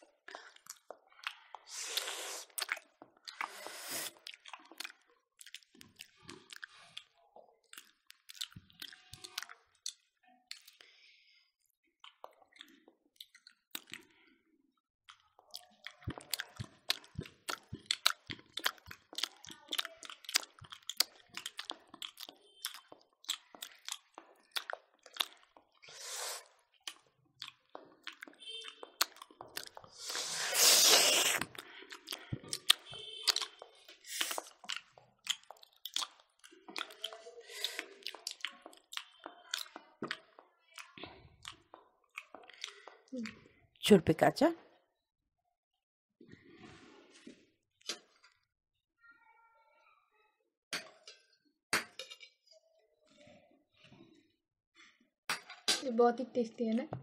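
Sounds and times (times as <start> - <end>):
people chewing and lip smacking: 0.0 - 43.8, 46.2 - 48.5, 50.7 - 54.3.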